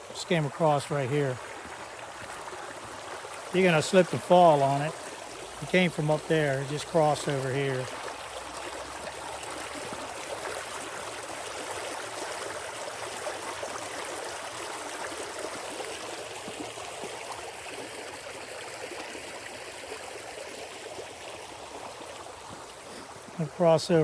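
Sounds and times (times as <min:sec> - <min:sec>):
creek water over rocks: 0:00.0 - 0:24.0.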